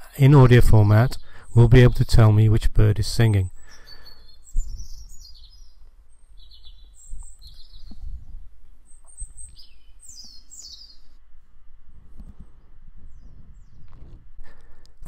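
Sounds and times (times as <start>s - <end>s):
songbirds singing: 0.0s - 11.2s, 12.2s - 15.0s.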